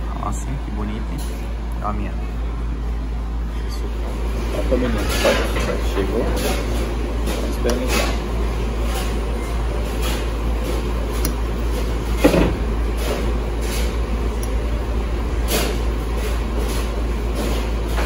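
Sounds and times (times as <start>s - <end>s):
dining room hum: 0.0s - 18.0s.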